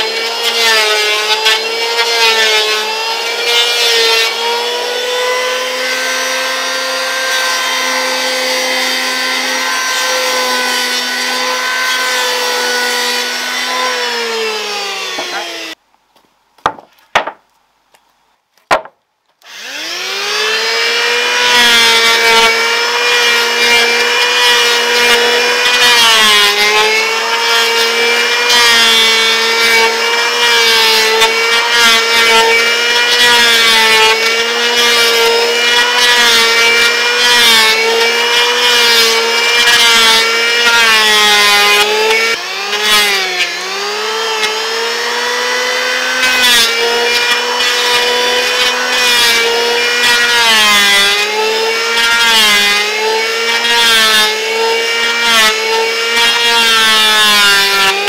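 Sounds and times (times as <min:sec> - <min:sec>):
electric planer whining: 0:00.0 - 0:15.8, 0:18.8 - 0:58.0.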